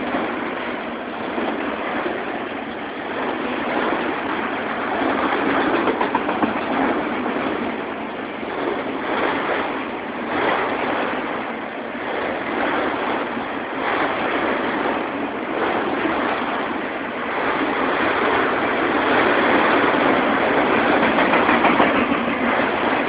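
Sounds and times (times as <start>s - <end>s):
freight cars rolling on rails: 0.0s - 23.0s.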